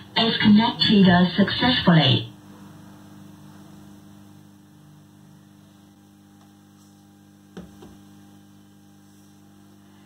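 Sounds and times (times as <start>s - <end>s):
amplifier mains hum: 0.0s - 10.0s.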